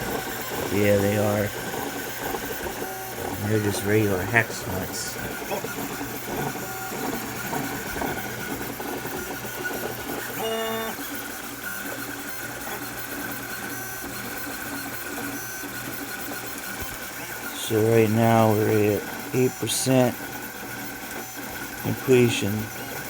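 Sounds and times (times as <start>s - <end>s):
printer stepper motors whirring: 0.0s - 23.0s.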